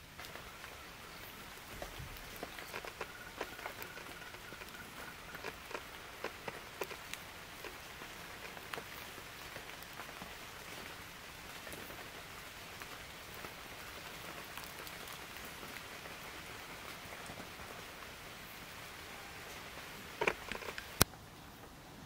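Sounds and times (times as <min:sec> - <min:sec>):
raindrop ticks: 0:00.0 - 0:21.8
rain hissing: 0:00.0 - 0:22.0.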